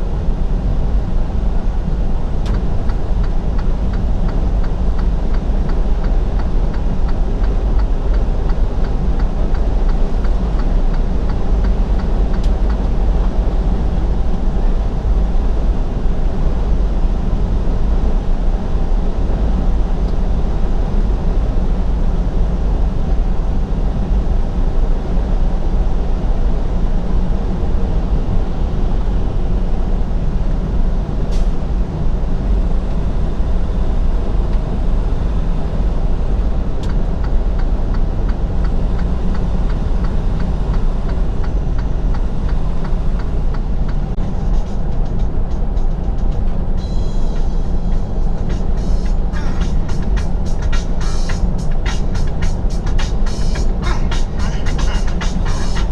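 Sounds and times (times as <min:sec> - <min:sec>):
diesel engine drone: 0:00.0 - 0:55.9
road noise: 0:00.0 - 0:55.9.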